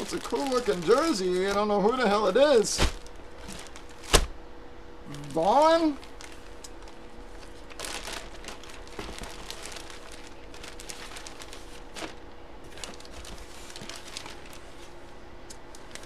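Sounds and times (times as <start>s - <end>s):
plastic bag crinkling: 0.0s - 4.3s, 5.1s - 15.0s, 15.7s - 16.0s.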